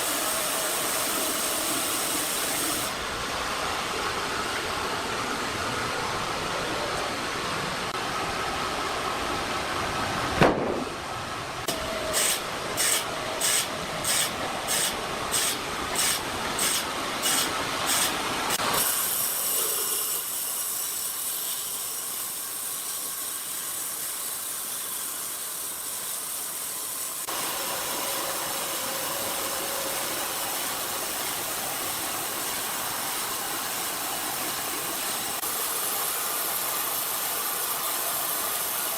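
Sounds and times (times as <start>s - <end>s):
workshop machinery noise: 0.0s - 8.0s, 10.2s - 38.9s.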